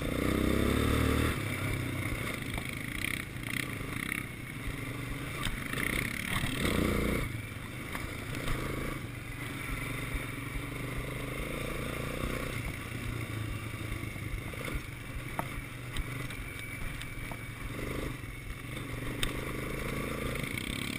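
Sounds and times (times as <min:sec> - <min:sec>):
quad bike engine running: 0:00.0 - 0:20.9.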